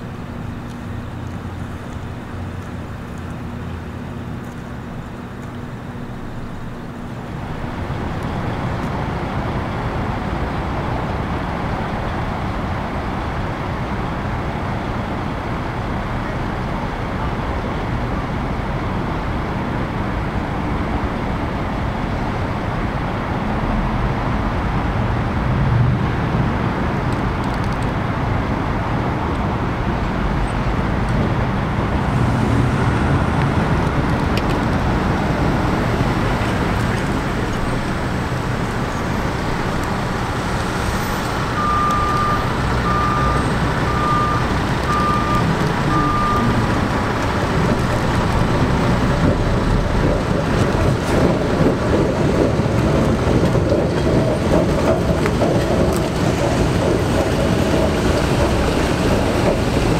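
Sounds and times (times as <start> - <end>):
low engine drone: 0.0 - 59.9
road traffic noise: 0.0 - 59.9.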